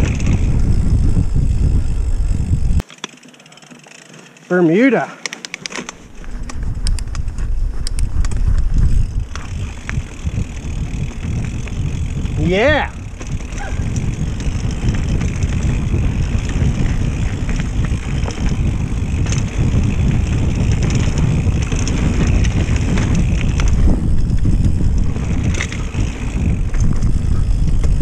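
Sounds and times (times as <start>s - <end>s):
wind on microphone: 0.0s - 2.8s, 6.1s - 28.0s
bike clattering: 0.0s - 28.0s
bike tyres rumbling on dirt: 0.0s - 28.0s.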